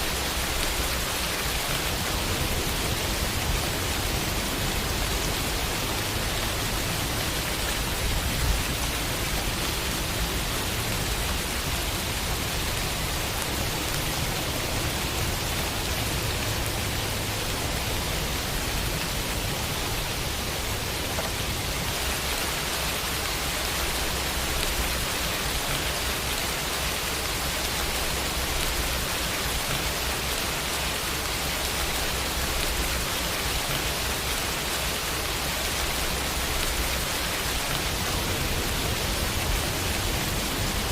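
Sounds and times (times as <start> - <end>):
rain falling on a window: 0.0 - 40.9.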